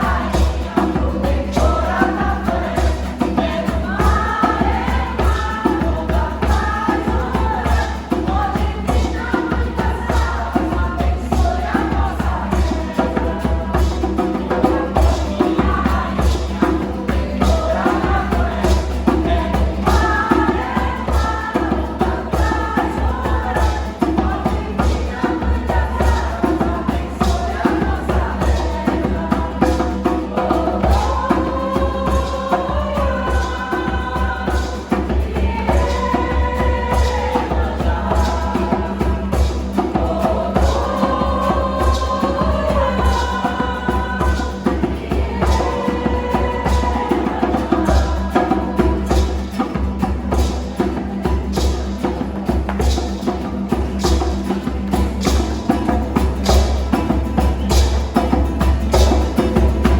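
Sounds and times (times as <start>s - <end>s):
choir singing folk song: 0.0s - 59.9s
steady percussion beat: 0.0s - 59.9s.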